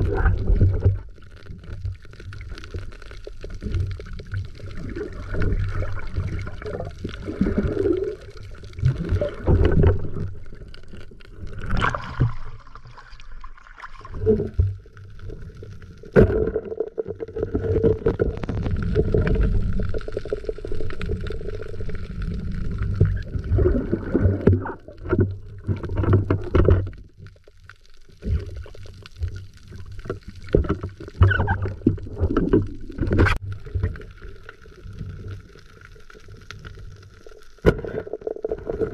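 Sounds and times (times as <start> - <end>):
underwater water rushing and gurgling: 0.0 - 38.9.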